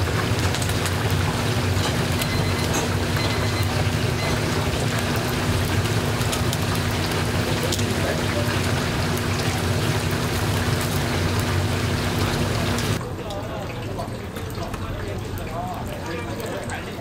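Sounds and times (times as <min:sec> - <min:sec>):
frying oil sizzling and crackling: 0:00.0 - 0:17.0.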